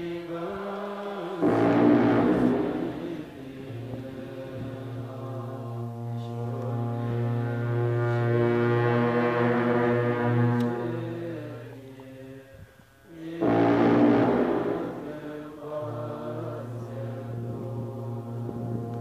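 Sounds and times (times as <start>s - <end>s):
low ritual drone: 0.0s - 12.4s, 13.2s - 19.0s.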